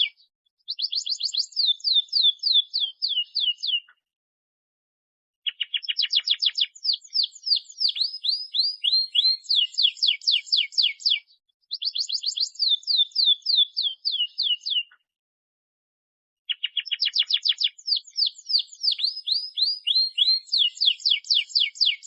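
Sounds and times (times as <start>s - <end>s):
canary singing trills: 0.0s - 4.0s, 5.4s - 15.0s, 16.5s - 22.0s.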